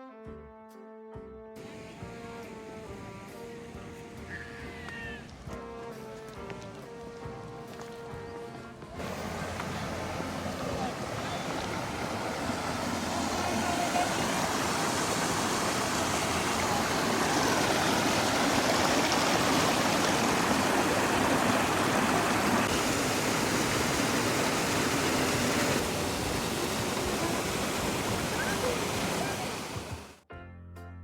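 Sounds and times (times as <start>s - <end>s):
falling water rushing: 1.6s - 30.2s.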